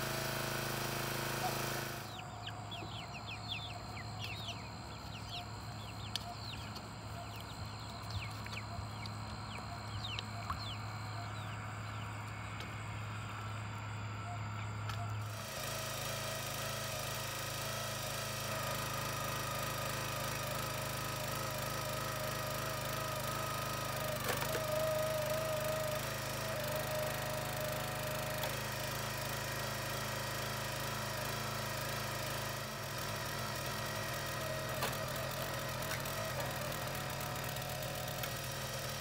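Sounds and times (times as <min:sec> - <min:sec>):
log splitter engine running: 0:00.0 - 0:39.0
log splitter hydraulic whine: 0:00.0 - 0:39.0.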